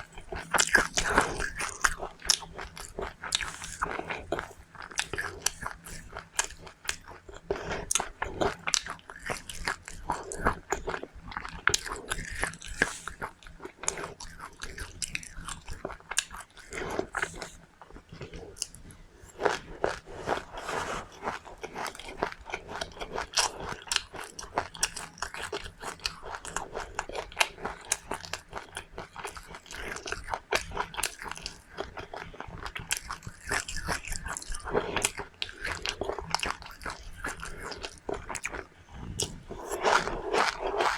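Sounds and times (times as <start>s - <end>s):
person crunching seeds: 0.4s - 7.2s, 7.9s - 38.6s.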